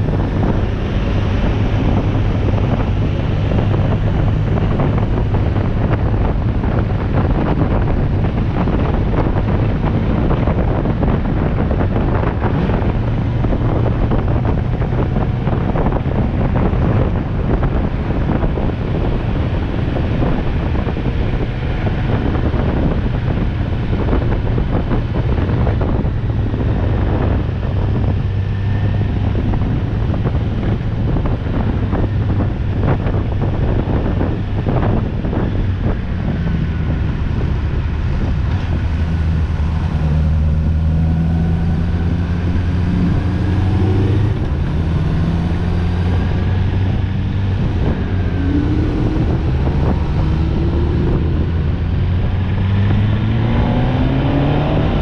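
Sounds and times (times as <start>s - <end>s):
steady low drone: 0.0s - 55.0s
wind buffeting microphone: 0.0s - 55.0s.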